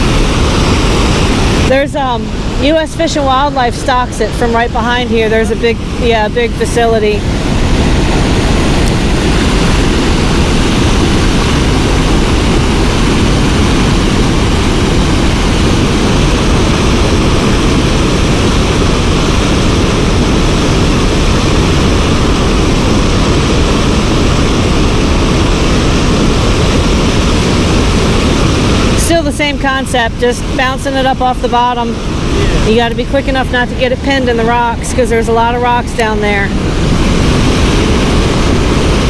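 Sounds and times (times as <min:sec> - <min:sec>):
water rushing over dam spillway: 0:00.0 - 0:39.0.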